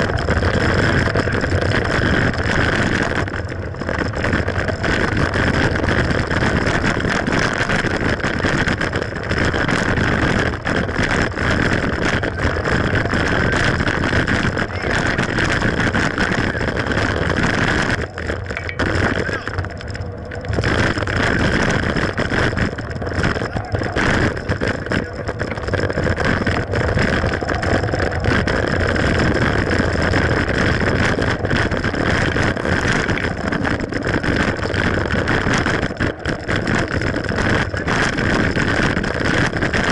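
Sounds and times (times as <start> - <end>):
bike rattling and knocking: 0.0 - 39.9
wind rushing on microphone: 0.0 - 39.9.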